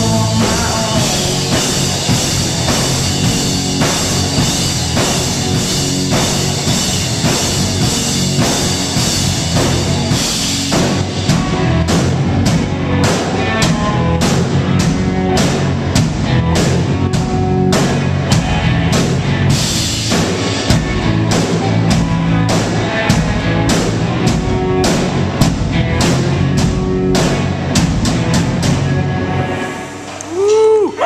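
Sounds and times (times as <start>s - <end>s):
drum kit beat: 0.0s - 29.1s
electric guitars: 0.0s - 30.8s.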